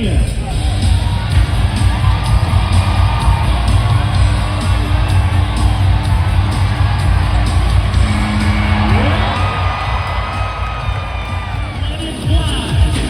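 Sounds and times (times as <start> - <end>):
loud music with strong bass: 0.0 - 13.0
people whooping and yelling: 0.5 - 13.0.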